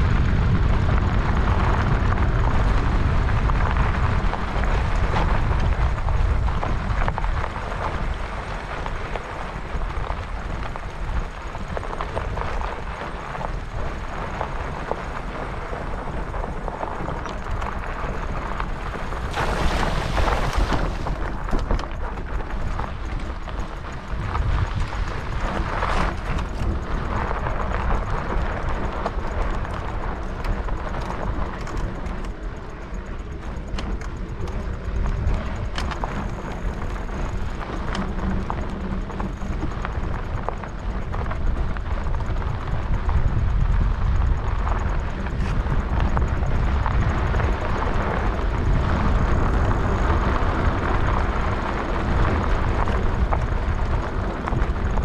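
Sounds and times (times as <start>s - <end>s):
bicycle tyre rumble: 0.0s - 55.0s
bike rattles and knocks: 0.0s - 55.0s
wind buffeting microphone: 0.0s - 55.0s.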